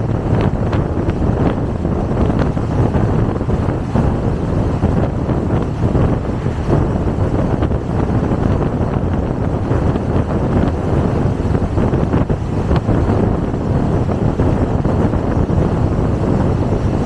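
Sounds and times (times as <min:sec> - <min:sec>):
car road noise: 0:00.0 - 0:17.0
wind rushing on microphone: 0:00.0 - 0:17.0.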